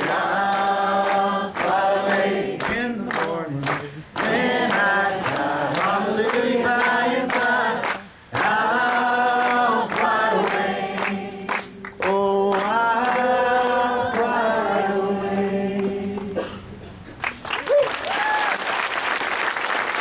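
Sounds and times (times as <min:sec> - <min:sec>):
people singing a hymn: 0:00.0 - 0:16.6.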